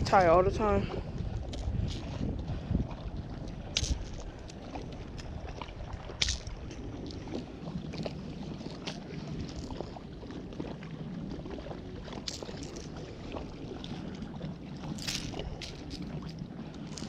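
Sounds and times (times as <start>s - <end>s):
wind and water rushing: 0.0s - 17.0s.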